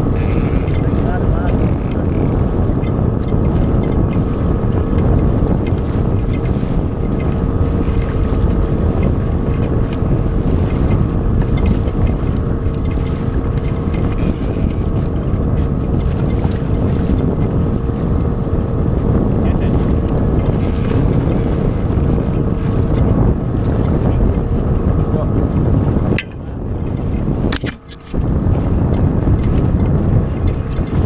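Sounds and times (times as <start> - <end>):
outboard motor running: 0.0 - 31.0
wind buffeting microphone: 0.0 - 31.0.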